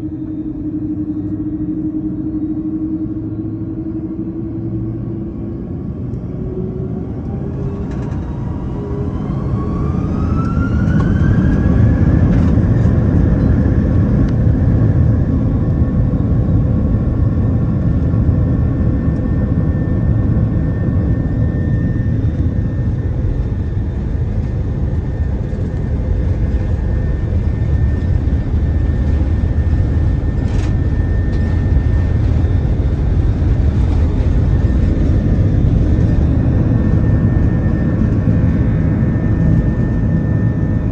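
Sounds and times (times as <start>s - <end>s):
jet engines spooling up: 0.0s - 40.9s.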